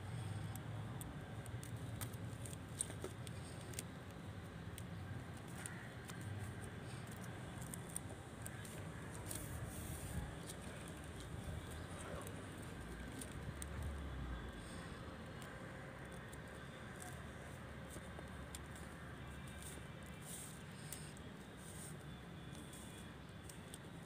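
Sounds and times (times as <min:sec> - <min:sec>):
dried pods ticking and rustling: 0:00.1 - 0:24.0.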